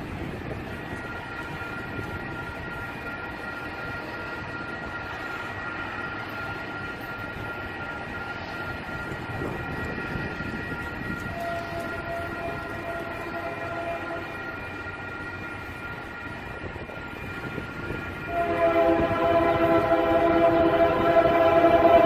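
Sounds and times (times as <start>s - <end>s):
freight train rumbling by: 0.0s - 22.0s.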